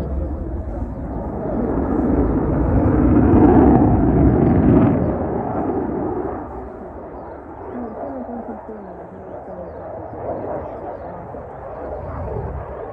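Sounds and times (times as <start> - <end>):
jet engine rumble: 0.0 - 12.9.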